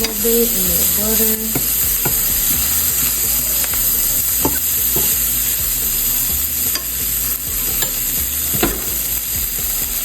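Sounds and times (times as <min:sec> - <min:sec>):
utensil clicking against pan: 0:00.0 - 0:05.6, 0:06.6 - 0:09.3
vegetables sizzling in a frying pan: 0:00.0 - 0:10.0.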